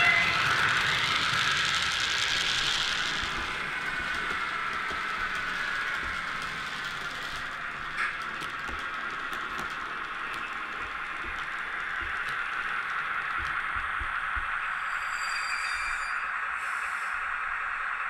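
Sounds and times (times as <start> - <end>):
model trains rolling: 0.0 - 18.0.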